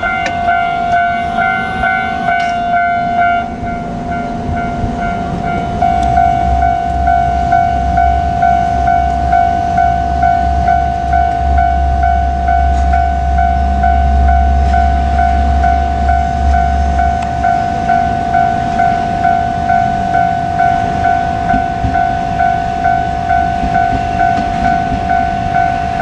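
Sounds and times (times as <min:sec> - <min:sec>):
diesel railcar engine rumble: 0:00.0 - 0:26.0
level-crossing alarm two-tone bell: 0:00.0 - 0:26.0.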